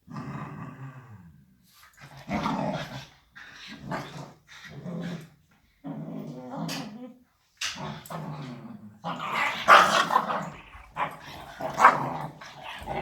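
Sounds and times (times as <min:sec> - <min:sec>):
dogs play-growling: 0:00.1 - 0:13.0.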